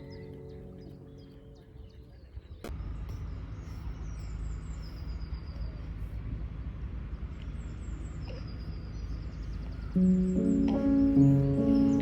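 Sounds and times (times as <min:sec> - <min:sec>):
small birds singing: 0:00.0 - 0:06.0, 0:07.2 - 0:12.0.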